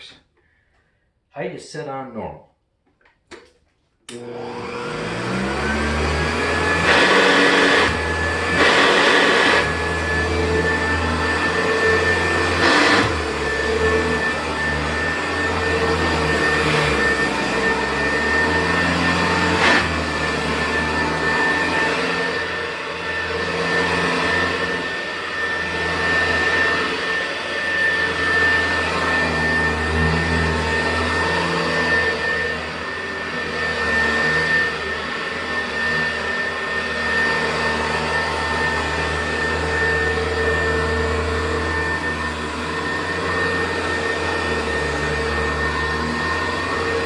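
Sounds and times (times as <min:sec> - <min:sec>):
vacuum cleaner motor hum: 0:04.1 - 0:47.0.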